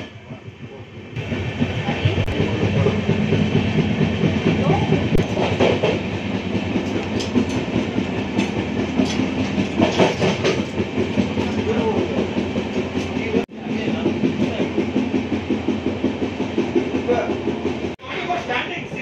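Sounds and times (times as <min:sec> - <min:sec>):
train rumble and rattle: 0:00.0 - 0:19.0
wheels clicking over rails: 0:01.2 - 0:19.0.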